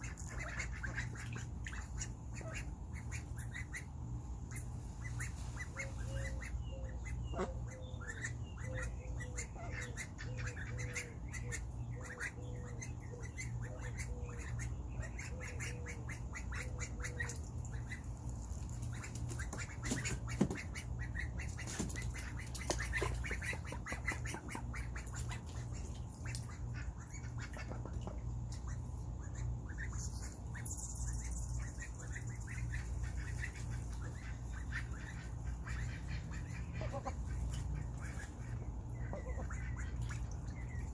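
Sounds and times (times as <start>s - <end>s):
ducklings peeping: 0.0s - 40.9s
steady low hum: 0.0s - 40.9s.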